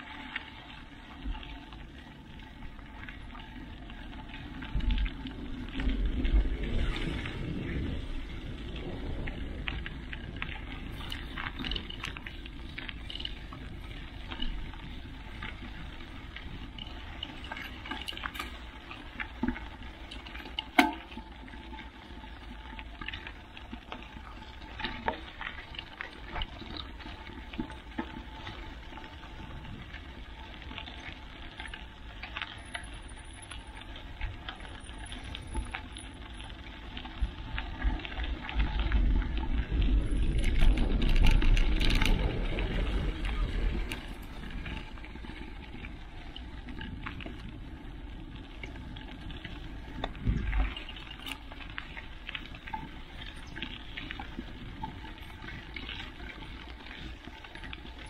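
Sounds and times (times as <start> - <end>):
bike tyres crunching on gravel: 0.0 - 58.0.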